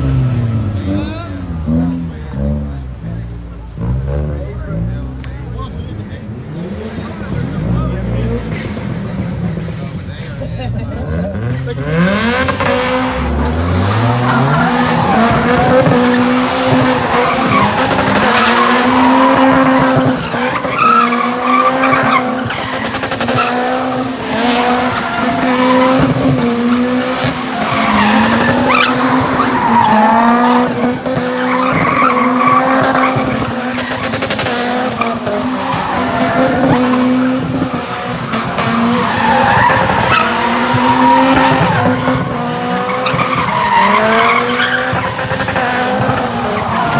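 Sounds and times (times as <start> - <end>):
car engine revving high: 0.0 - 46.9.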